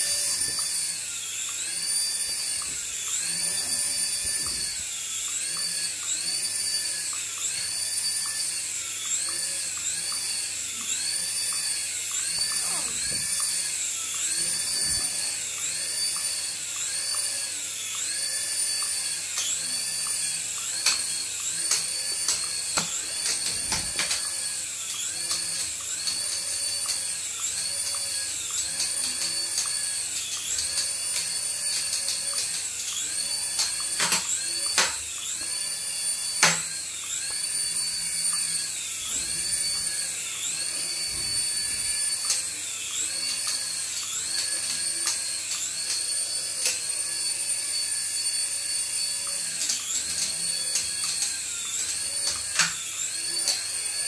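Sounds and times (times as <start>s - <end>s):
toy helicopter motor whine: 0.0s - 54.0s.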